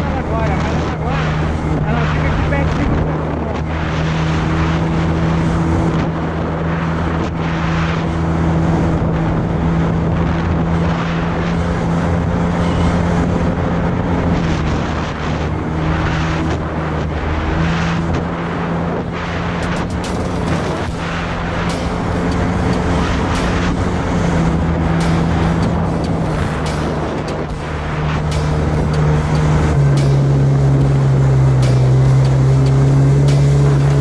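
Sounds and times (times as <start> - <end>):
jet ski engine running: 0.0 - 34.0
water rushing past hull: 0.0 - 34.0
wind buffeting microphone: 0.0 - 34.0.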